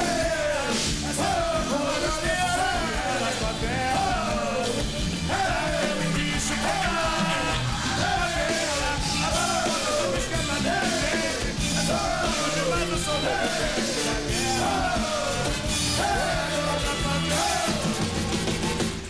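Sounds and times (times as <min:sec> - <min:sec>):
samba percussion: 0:00.0 - 0:19.0.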